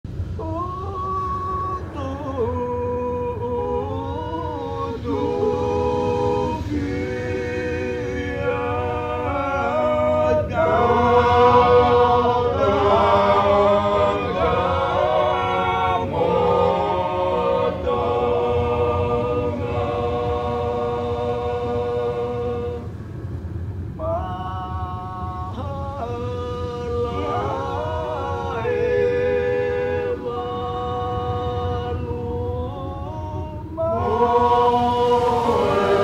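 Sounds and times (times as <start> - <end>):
low steady hum: 0.0 - 36.0
choir singing a cappella: 0.4 - 23.0, 24.0 - 36.0.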